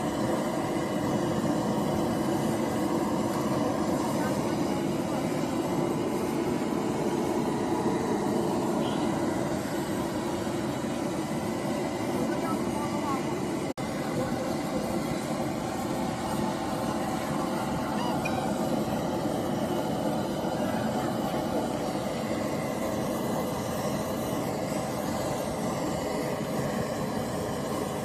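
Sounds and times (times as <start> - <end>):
traffic rumble and hiss: 0.0 - 28.0.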